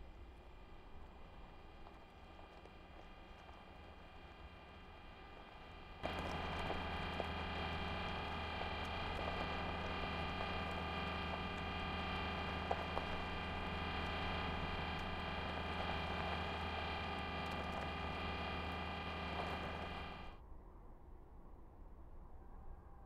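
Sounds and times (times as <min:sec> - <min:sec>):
droning hum: 0:00.0 - 0:20.4
faint ticks: 0:00.1 - 0:20.3.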